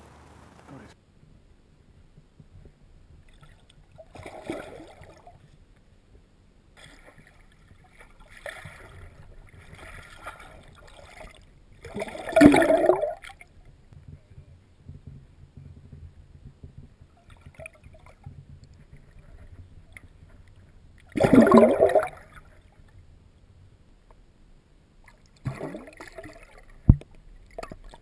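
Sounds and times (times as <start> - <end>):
water gurgling and sloshing: 1.5 - 24.1, 24.8 - 28.0.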